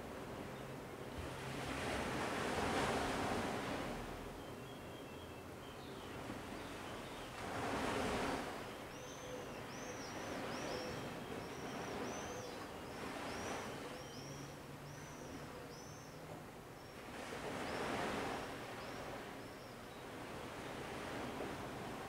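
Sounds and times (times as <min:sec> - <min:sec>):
sea waves washing in: 0:00.0 - 0:04.4, 0:06.1 - 0:08.8, 0:09.7 - 0:19.4, 0:20.0 - 0:22.0.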